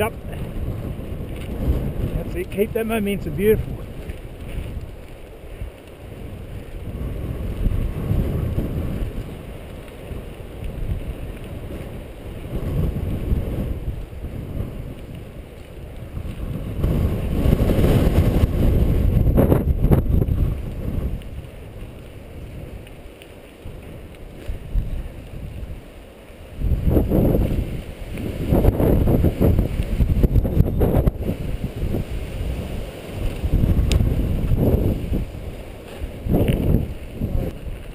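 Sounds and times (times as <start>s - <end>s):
bike tyres rumbling on dirt trail: 0.0s - 37.9s
wind buffeting microphone: 0.0s - 37.9s.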